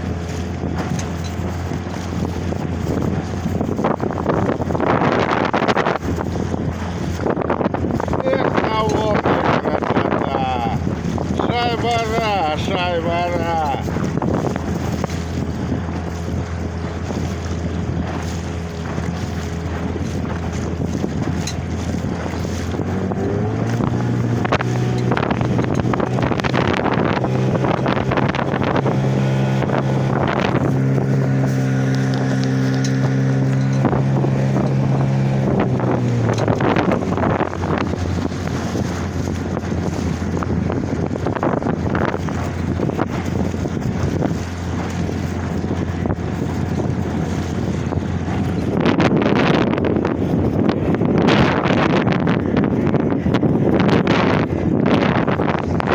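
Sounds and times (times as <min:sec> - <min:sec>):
outboard motor running: 0:00.0 - 0:55.9
waves splashing against boat: 0:00.0 - 0:55.9
wind buffeting microphone: 0:00.0 - 0:55.9.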